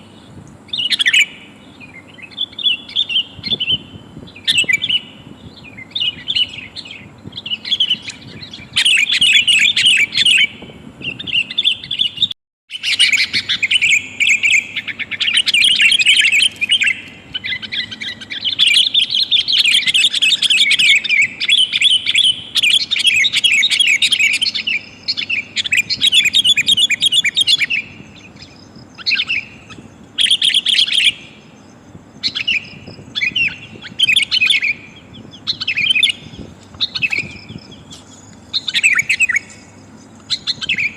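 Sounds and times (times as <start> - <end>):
bird chattering calls: 0.0 - 40.9.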